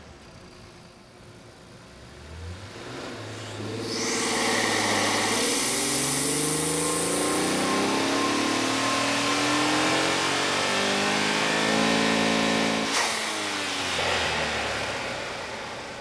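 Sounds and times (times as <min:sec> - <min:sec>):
car engine revving: 0:01.9 - 0:16.0
loud intake noise: 0:02.7 - 0:15.9.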